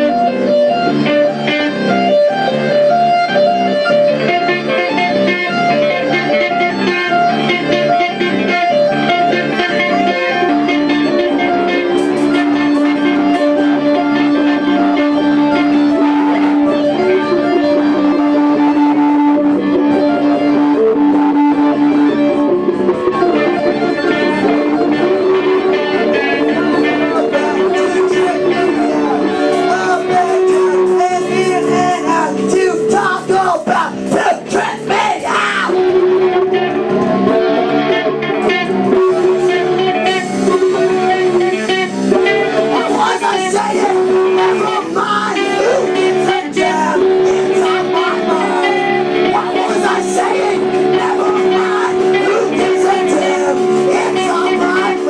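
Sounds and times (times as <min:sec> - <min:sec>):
guitar music: 0:00.0 - 0:55.0.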